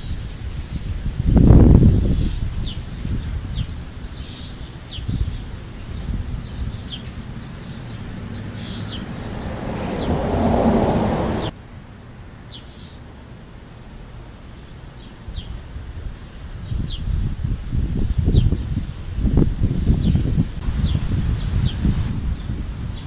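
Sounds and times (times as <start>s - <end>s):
small birds chirping: 0.0s - 11.6s, 12.4s - 13.1s, 14.4s - 23.0s
low wind rumble: 0.0s - 23.0s.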